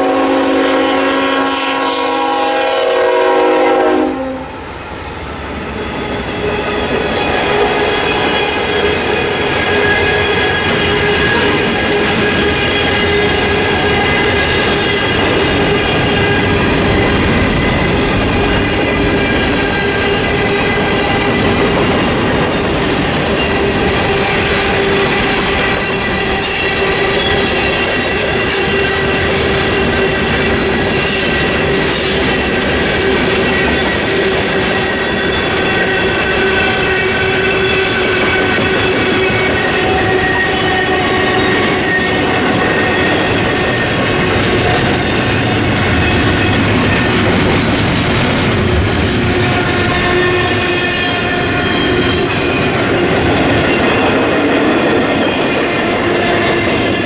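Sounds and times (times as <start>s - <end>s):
train wheels clattering over rails: 5.7s - 57.0s.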